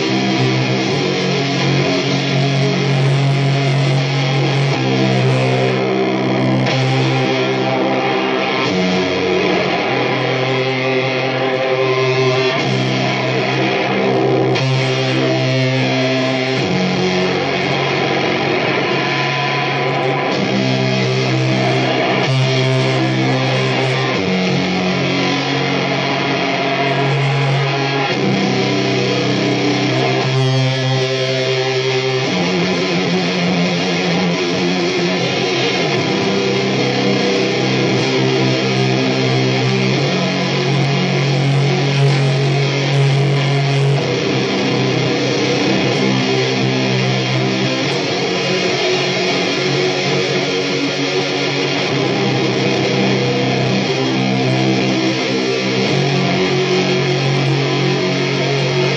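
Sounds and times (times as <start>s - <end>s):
distorted electric guitar chords: 0.0s - 58.9s.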